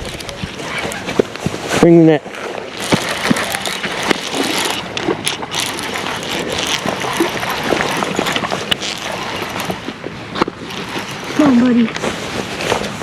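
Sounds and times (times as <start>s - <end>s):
fishing reel clicking and whirring: 0.0s - 1.1s, 2.5s - 13.0s
continuous rustling: 0.0s - 13.0s.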